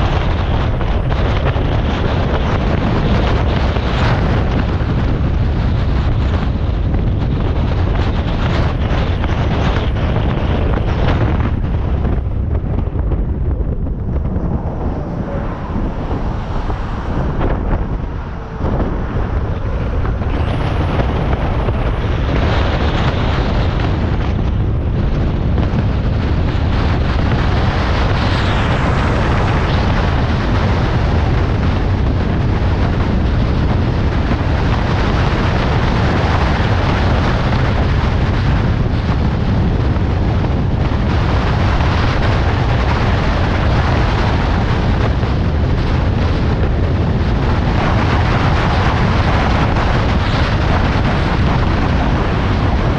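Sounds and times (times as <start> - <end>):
tyre and road noise: 0.0 - 52.9
wind rumble on microphone: 0.0 - 52.9.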